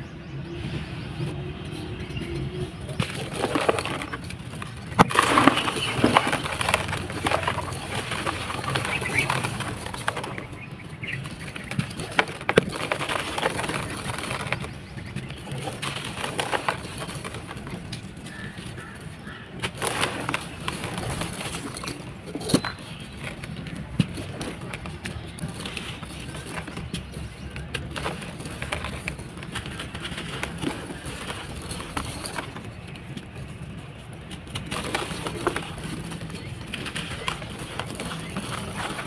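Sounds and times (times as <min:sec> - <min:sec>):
sand-cement balls crumbling: 0:02.7 - 0:39.0.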